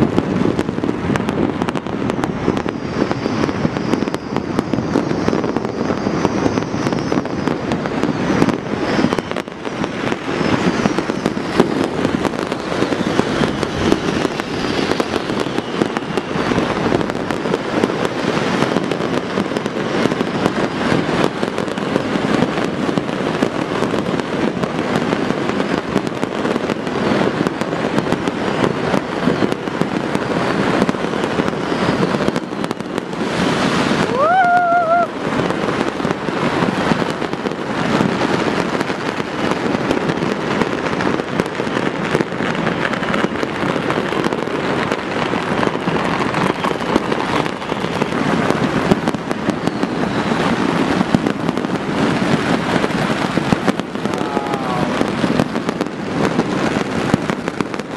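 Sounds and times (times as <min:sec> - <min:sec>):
fireworks crackling and popping: 0:00.0 - 0:57.9
rising firework whistle: 0:00.0 - 0:57.9.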